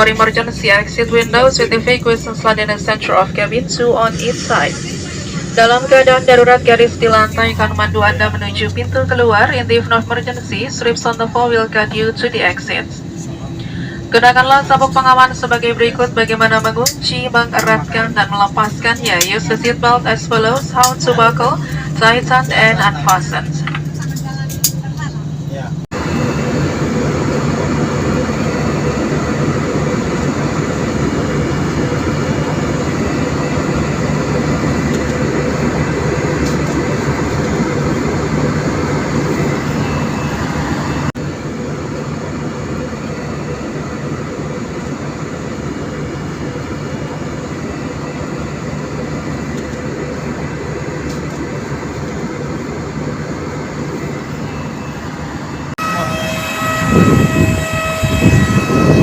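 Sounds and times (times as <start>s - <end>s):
jet airliner cabin rumble: 0.0s - 56.1s.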